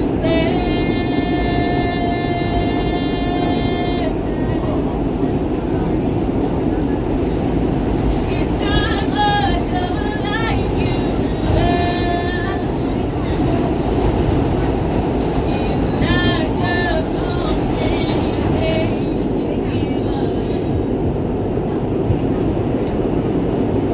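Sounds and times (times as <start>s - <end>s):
subway train rumbling: 0.0s - 23.9s.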